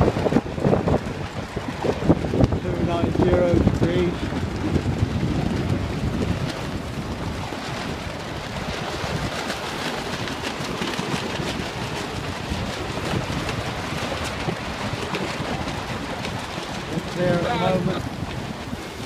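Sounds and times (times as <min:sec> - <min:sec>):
choppy water along a hull: 0:00.0 - 0:19.0
wind buffeting the microphone: 0:00.0 - 0:19.0.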